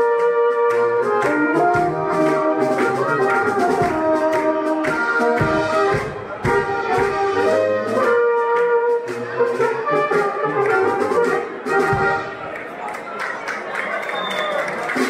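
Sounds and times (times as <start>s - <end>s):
brass music: 0.0s - 12.7s.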